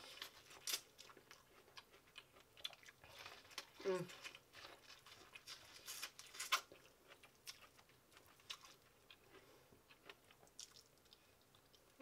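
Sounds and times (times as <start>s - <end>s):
person chewing corn on the cob: 0.0s - 12.0s.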